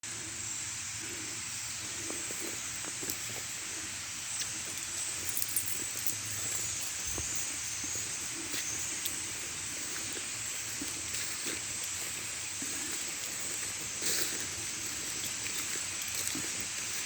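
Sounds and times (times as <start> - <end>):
flock of birds chattering: 1.0 - 17.0.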